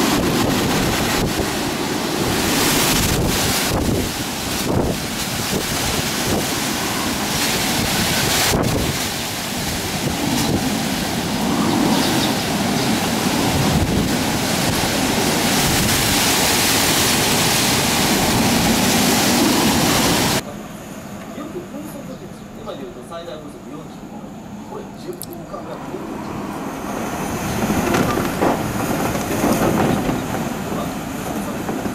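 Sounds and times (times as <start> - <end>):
wind buffeting microphone: 0.0 - 20.4, 25.3 - 31.9
wind gusting through trees: 0.0 - 31.9.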